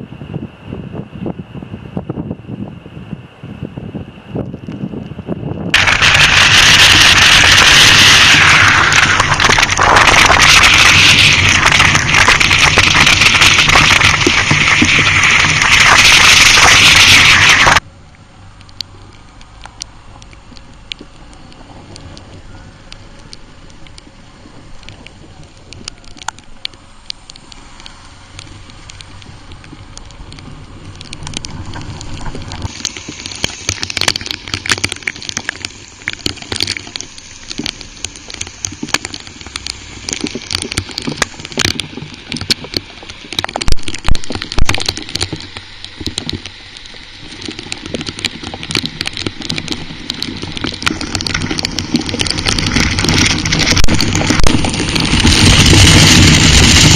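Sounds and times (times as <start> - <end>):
wind and rain rush: 0.0 - 56.9
motorcycle engine drone: 5.3 - 56.9
raindrops ticking: 5.7 - 17.8, 18.5 - 56.9.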